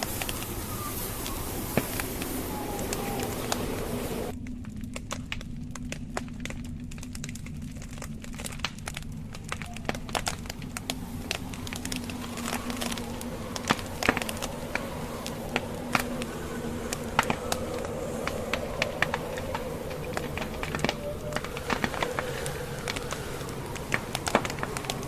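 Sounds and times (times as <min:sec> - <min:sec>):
low rumble of fire: 0:00.0 - 0:25.0
wood fire crackling: 0:00.0 - 0:25.0.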